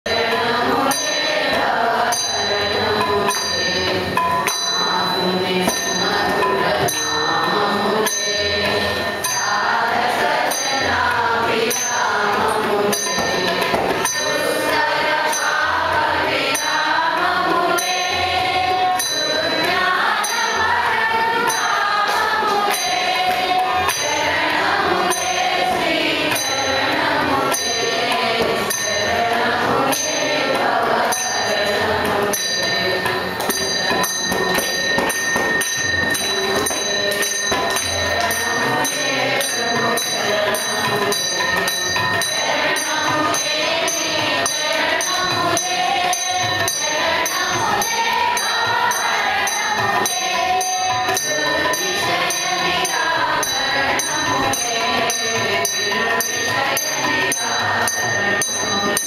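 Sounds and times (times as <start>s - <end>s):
metal percussion ringing beat: 0.0s - 59.0s
group singing devotional song: 0.1s - 59.0s.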